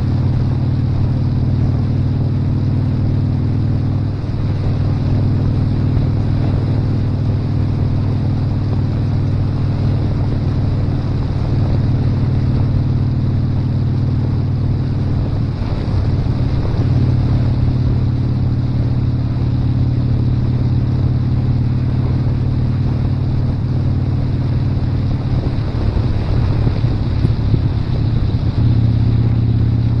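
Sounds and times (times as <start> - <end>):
motorcycle engine running: 0.0 - 30.0
wind on microphone: 0.0 - 30.0.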